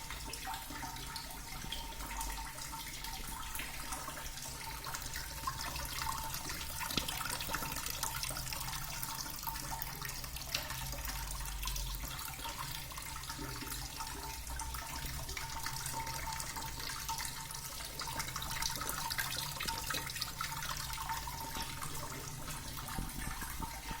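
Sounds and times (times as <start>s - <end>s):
water drops pattering: 0.1s - 12.0s, 13.3s - 24.0s.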